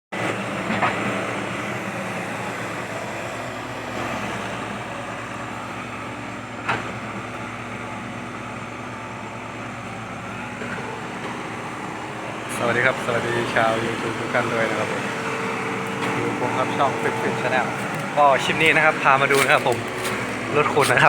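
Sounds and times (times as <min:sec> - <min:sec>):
excavator diesel engine running: 0:00.2 - 0:21.0.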